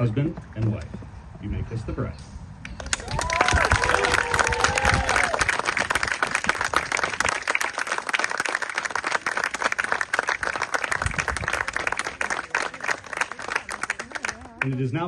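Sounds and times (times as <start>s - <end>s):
crowd clapping: 2.8s - 15.0s.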